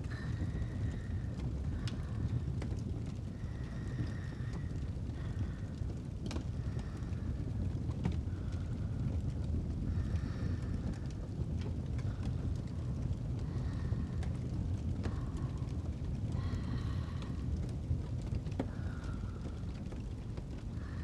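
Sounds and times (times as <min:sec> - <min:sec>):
fireplace rumble: 0:00.0 - 0:21.0
soft sleep breathing: 0:00.0 - 0:21.0
wood crackling and popping: 0:00.0 - 0:21.0.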